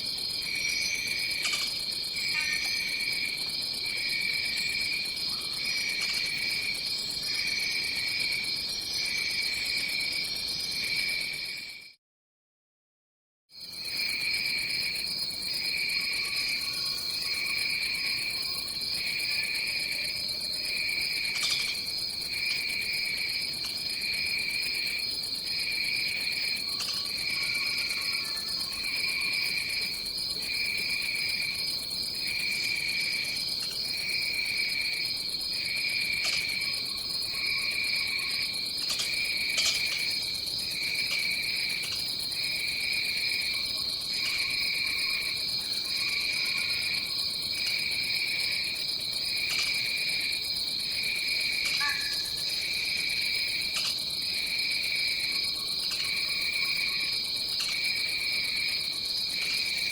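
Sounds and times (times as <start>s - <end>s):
high insect drone: 0.0s - 11.8s, 13.6s - 59.9s
insect chirping call: 0.0s - 11.8s, 13.6s - 59.9s.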